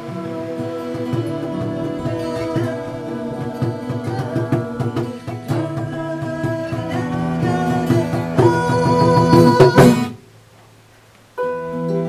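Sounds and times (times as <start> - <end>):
instrumental music with held notes: 0.0 - 10.2, 11.4 - 12.0.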